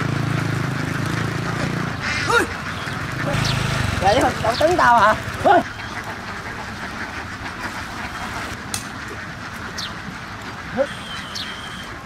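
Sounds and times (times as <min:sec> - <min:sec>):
flock of ducks quacking: 0:00.0 - 0:12.0.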